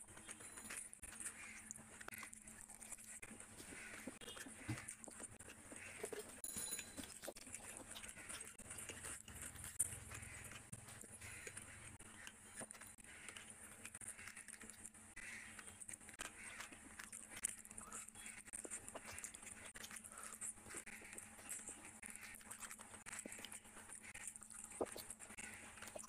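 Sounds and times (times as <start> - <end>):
wet chewing smacks: 0.0 - 6.4, 7.0 - 26.0.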